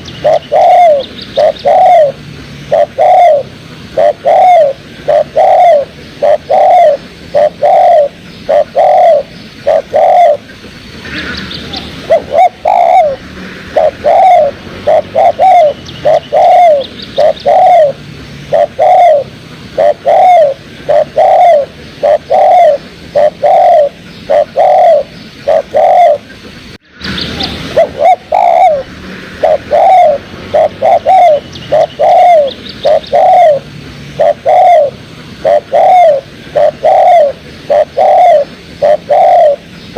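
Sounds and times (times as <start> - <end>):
dove cooing: 0.0 - 26.6, 27.2 - 39.9.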